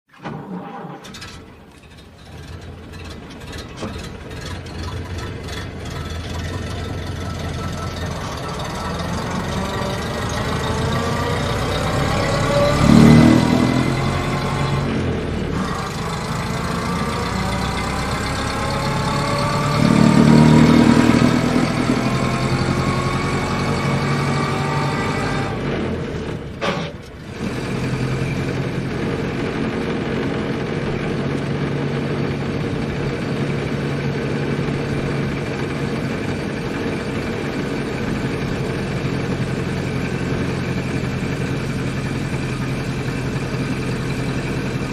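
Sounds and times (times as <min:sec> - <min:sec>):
car engine running: 0:01.1 - 0:44.9.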